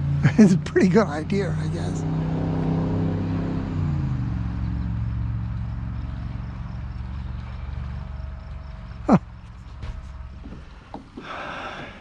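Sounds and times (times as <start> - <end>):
motor vehicle passing by: 0.0 - 11.9.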